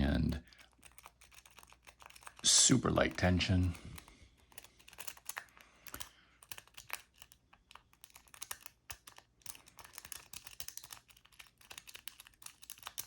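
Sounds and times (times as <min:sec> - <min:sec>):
lock pick raking metallic clicks: 0:00.4 - 0:02.5, 0:03.1 - 0:13.0.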